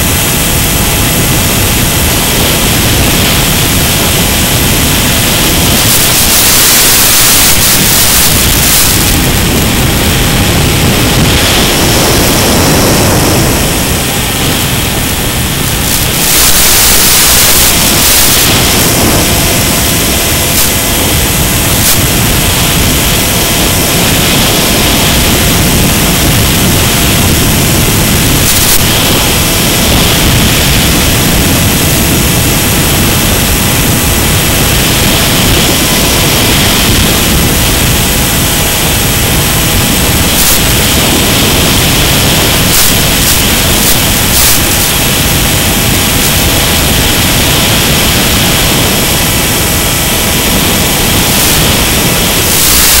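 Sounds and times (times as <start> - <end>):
loud static hiss: 0.0 - 53.0.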